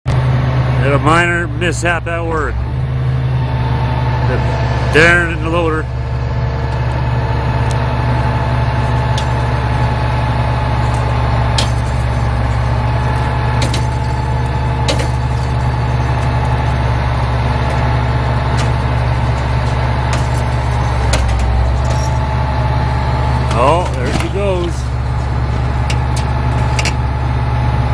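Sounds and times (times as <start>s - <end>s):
vehicle engine idling: 0.0s - 27.9s.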